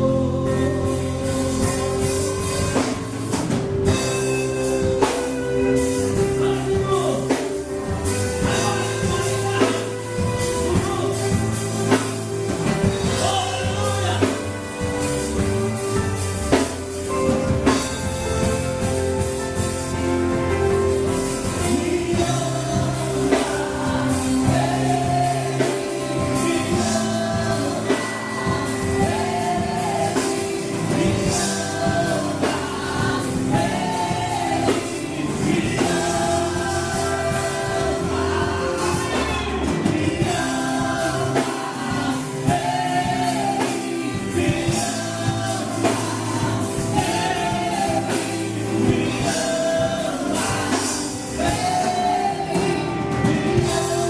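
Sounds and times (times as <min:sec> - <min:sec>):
band playing: 0:00.0 - 0:54.0
voices singing: 0:00.0 - 0:54.0.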